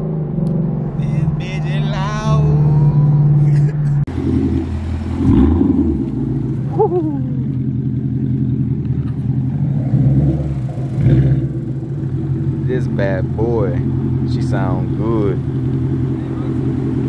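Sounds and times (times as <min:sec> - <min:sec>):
car exhaust drone: 0:00.0 - 0:17.0.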